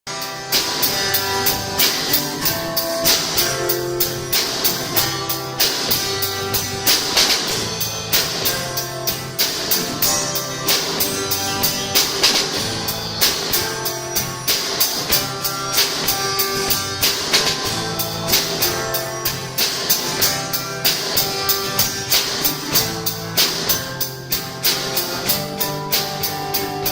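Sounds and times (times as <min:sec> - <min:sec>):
guitar: 0:00.0 - 0:26.9
percussion steady beat: 0:00.0 - 0:26.9.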